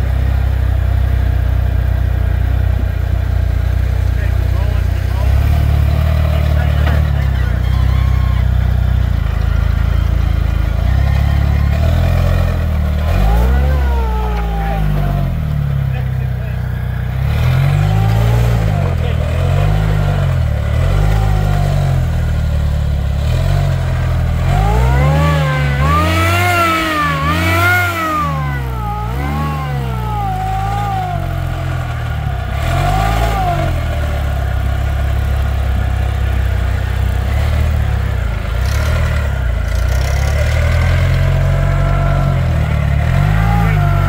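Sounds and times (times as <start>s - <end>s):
buggy engine revving: 0.0s - 44.0s.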